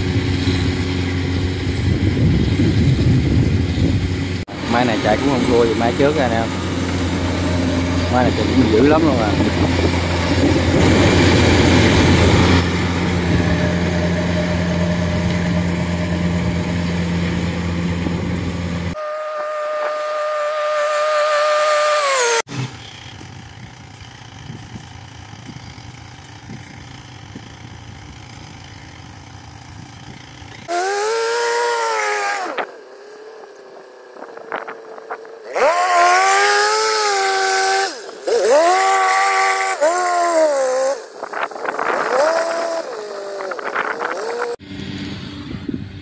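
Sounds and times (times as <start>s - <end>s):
combine harvester engine revving: 0.0s - 46.0s.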